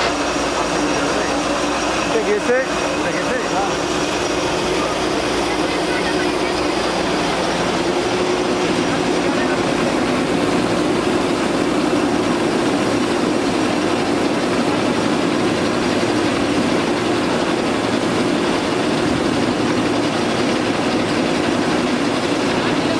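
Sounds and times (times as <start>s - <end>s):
steady mechanical drone: 0.0s - 22.9s.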